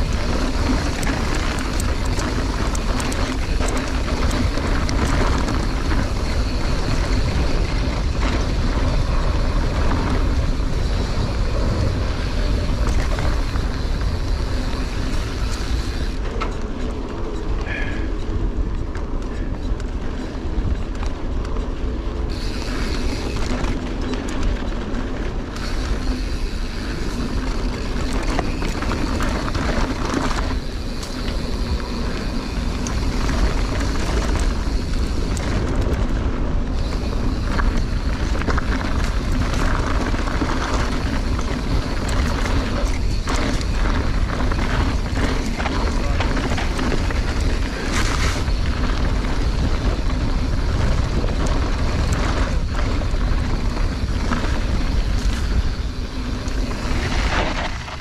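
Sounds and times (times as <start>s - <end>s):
tyres crunching over gravel: 0.0s - 18.1s, 18.9s - 58.0s
bike rattling over bumps: 0.0s - 58.0s
wind on microphone: 0.0s - 58.0s.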